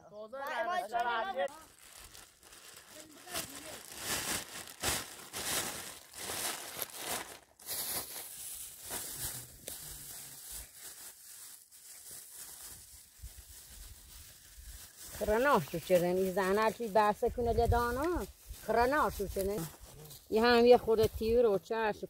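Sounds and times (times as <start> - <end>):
rustling and crinkling: 1.5 - 21.5.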